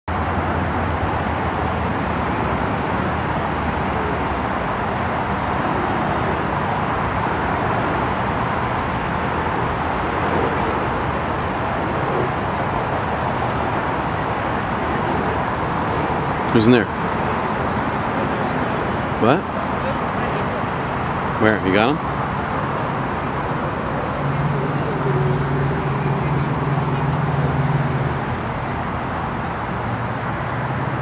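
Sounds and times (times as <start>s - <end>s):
outdoor background roar: 0.1s - 31.0s.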